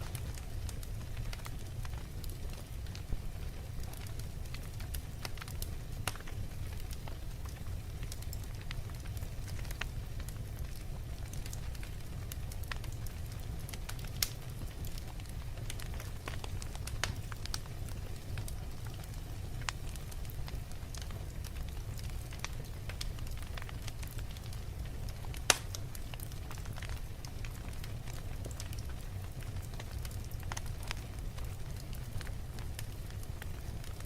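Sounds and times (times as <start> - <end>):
fire crackling: 0.0 - 34.0.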